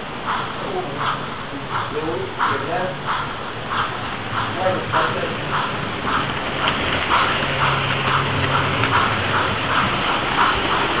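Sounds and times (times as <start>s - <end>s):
model locomotive steam chuffing: 0.0s - 11.0s.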